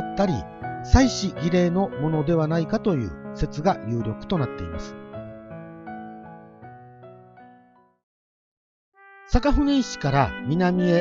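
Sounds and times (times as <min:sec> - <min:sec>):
soft keyboard music: 0:00.0 - 0:08.0, 0:09.0 - 0:11.0.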